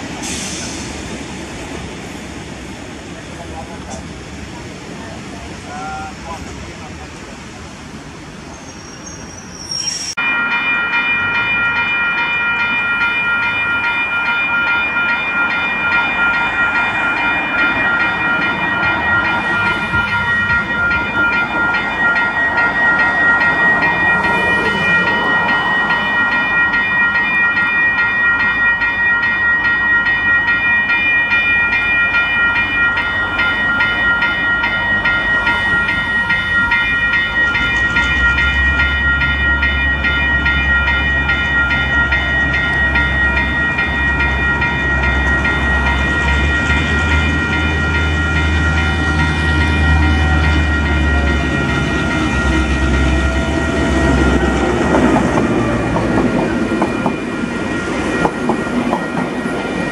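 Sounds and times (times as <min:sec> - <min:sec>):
level crossing warning bells: 0:10.2 - 0:59.9.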